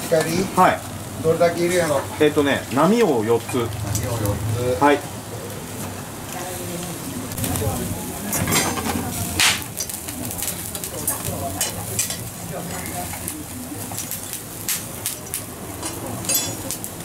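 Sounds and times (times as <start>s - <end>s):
fish sizzling on a grill: 0.0s - 17.0s.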